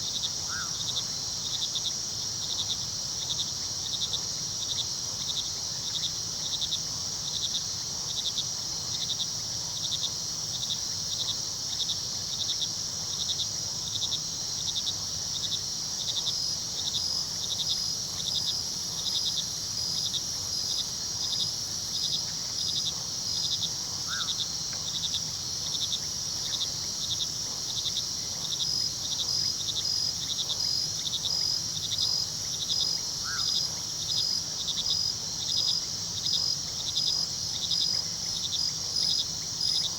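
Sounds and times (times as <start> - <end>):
crickets trilling: 0.0 - 39.9
cricket chirping in pulses: 0.1 - 39.9.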